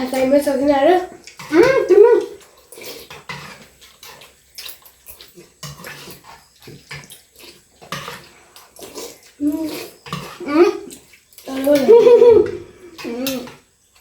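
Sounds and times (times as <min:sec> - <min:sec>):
people slurping noodle soup: 0:01.2 - 0:13.6.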